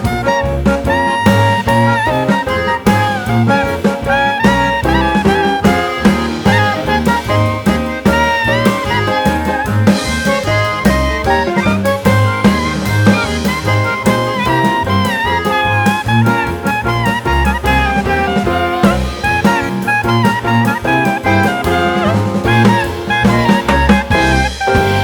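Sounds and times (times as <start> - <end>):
bass line: 0.0 - 25.0
drum kit: 0.0 - 25.0
horn melody: 0.0 - 25.0.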